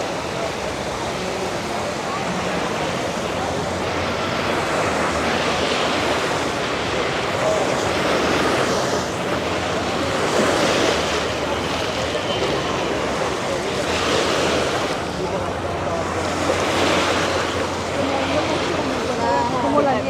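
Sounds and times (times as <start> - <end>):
waves breaking on a beach: 0.0 - 20.0.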